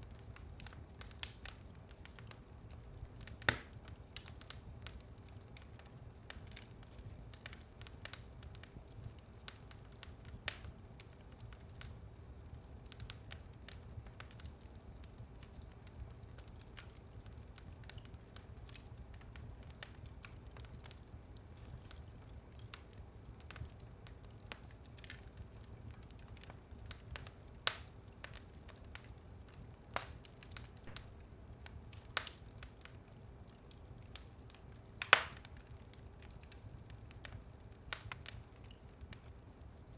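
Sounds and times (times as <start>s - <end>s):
fire low rumble: 0.0s - 39.9s
wood fire crackling: 0.0s - 39.9s
wood fire popping: 0.0s - 39.9s.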